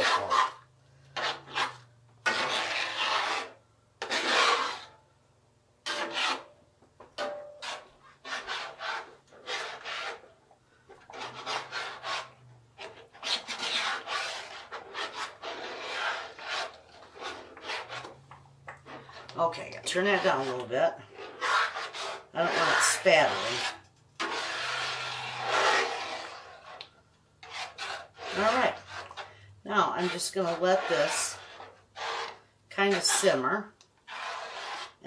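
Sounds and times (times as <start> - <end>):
spatula scraping skillet: 0.0 - 5.0, 5.8 - 6.6, 7.2 - 35.0.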